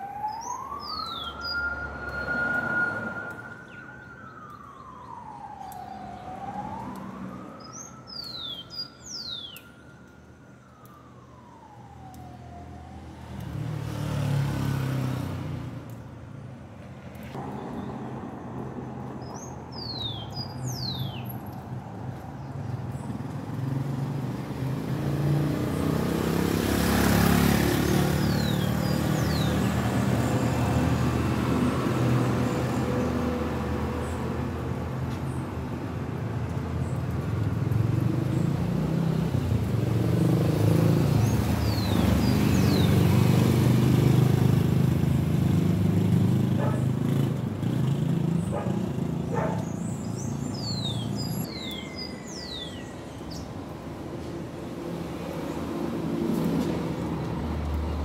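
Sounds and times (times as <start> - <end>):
vehicles passing on street: 0.0 - 58.0.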